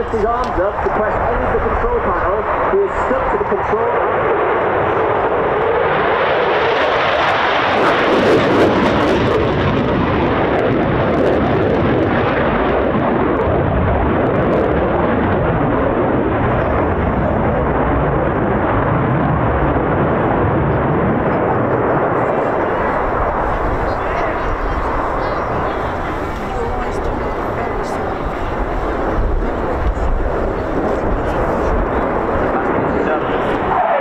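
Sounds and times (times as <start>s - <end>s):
jet engines flying overhead: 0.0s - 34.0s.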